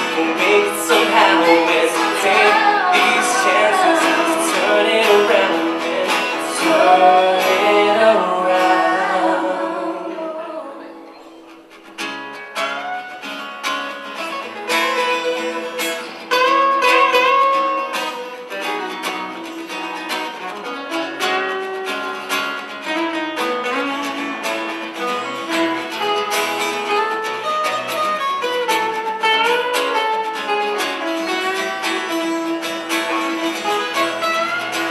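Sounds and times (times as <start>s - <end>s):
acoustic guitars playing: 0.0s - 34.9s.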